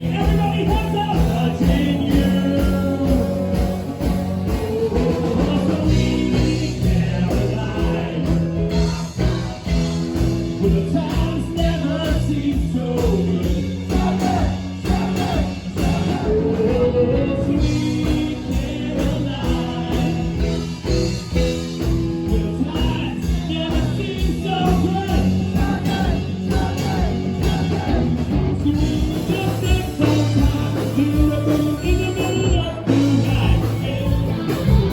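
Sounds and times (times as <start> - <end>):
rock band with singer: 0.0 - 34.9.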